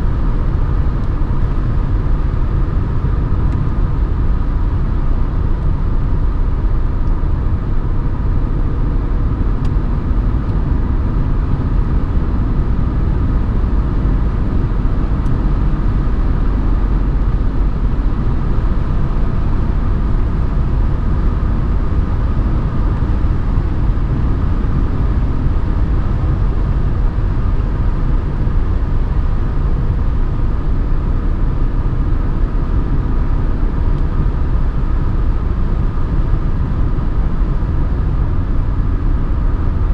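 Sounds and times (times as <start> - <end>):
diesel engine cruising: 0.0 - 39.9.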